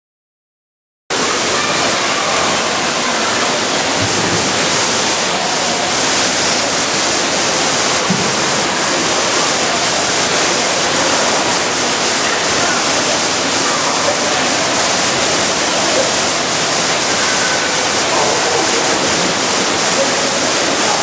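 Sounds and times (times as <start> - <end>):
water rushing in pool hall: 1.1 - 21.0.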